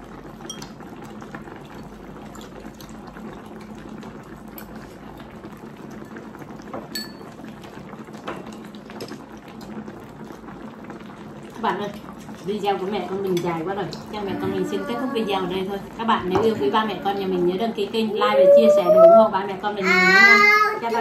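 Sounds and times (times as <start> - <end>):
broth bubbling in pot: 0.0 - 21.0.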